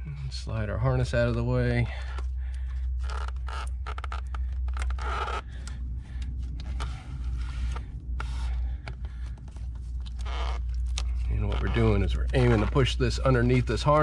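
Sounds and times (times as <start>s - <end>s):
steady low hum: 0.0s - 14.0s
clicks and rubbing of hoses: 1.2s - 14.0s.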